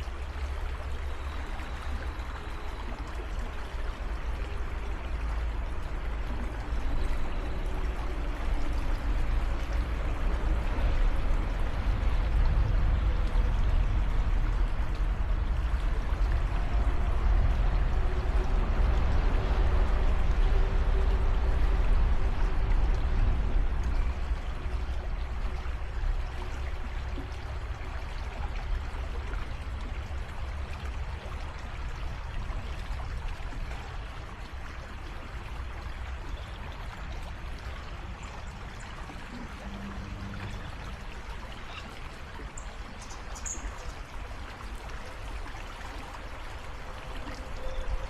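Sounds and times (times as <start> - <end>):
creek water over rocks: 0.0 - 48.0.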